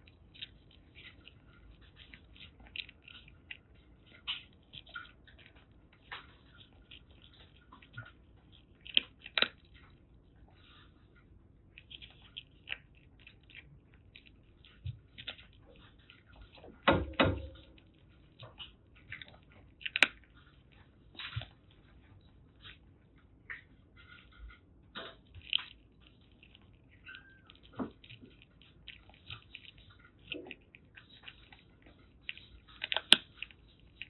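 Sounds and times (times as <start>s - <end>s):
kitten crunching dry kibble: 0.0s - 34.0s.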